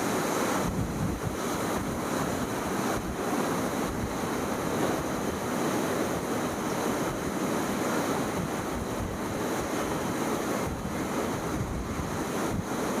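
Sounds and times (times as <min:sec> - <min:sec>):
rush of lake waves: 0:00.0 - 0:13.0
wind buffeting microphone: 0:00.5 - 0:13.0.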